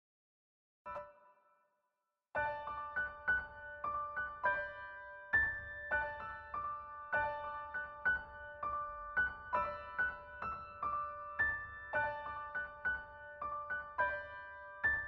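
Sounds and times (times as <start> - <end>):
solo piano melody: 2.4 - 15.0.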